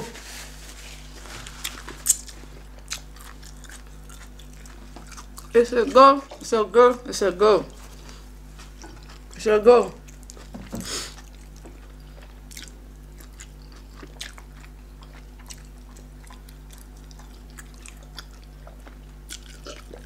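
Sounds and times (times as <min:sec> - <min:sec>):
steady low hum: 0:00.0 - 0:20.0
soft chewing: 0:00.7 - 0:20.0.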